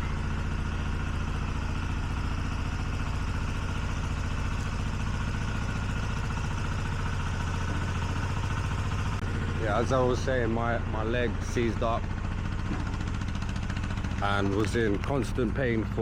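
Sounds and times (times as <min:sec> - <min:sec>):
combustion engine running: 0:00.0 - 0:16.0.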